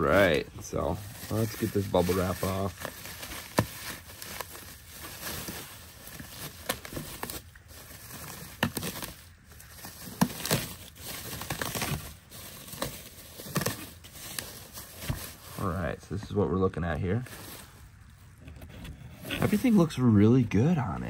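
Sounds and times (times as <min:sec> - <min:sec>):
bubble wrap crinkling: 0:00.0 - 0:18.4, 0:19.1 - 0:20.6.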